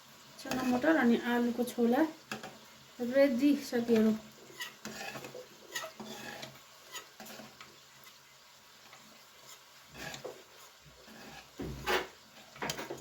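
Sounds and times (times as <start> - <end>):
spoon stirring and scraping pot: 0.4 - 1.2, 2.2 - 2.8, 3.8 - 13.0.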